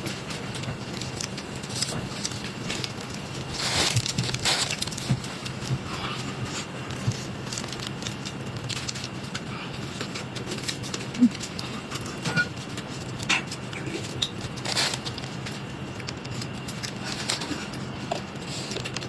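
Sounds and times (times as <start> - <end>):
crunching and crinkling: 0.0 - 19.0.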